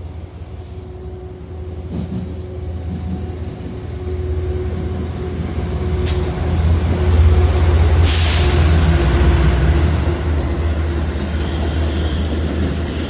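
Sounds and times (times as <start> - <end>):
train engine and wheel rumble: 0.0 - 13.0.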